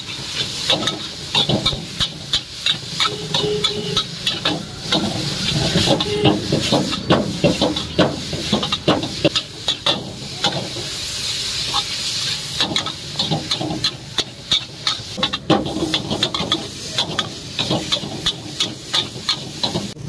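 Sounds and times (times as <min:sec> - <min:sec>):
metal spatula scraping wok: 0:00.0 - 0:20.0
noodles sizzling: 0:00.0 - 0:20.0.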